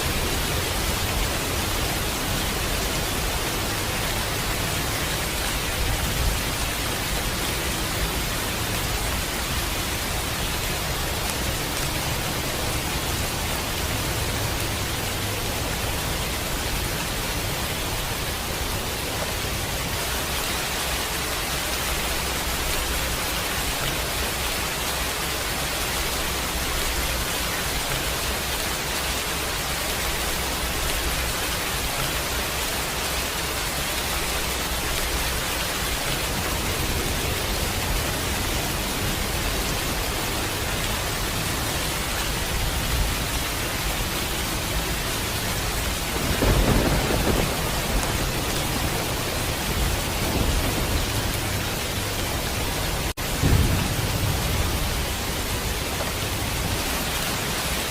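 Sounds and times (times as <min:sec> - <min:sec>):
heavy rain hiss: 0:00.0 - 0:57.9.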